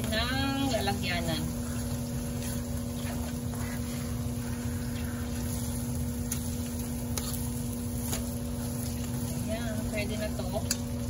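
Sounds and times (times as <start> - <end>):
spatula stirring sticky rice: 0.0 - 10.8
steady low hum: 0.0 - 11.0.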